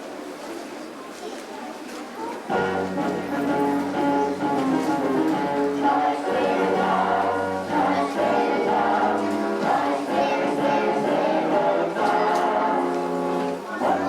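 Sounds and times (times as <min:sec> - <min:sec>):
group of voices singing: 0:02.5 - 0:14.0
instrumental accompaniment: 0:02.5 - 0:14.0.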